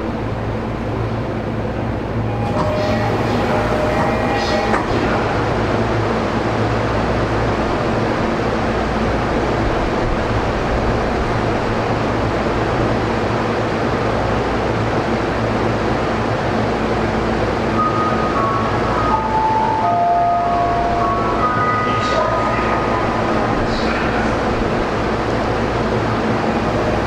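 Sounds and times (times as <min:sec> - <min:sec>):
subway car rumble and hiss: 0:00.0 - 0:27.0.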